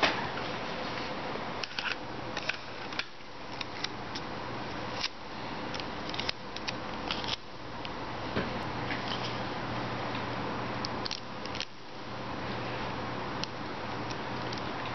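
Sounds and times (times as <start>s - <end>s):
steady low hum and hiss: 0.0s - 14.9s.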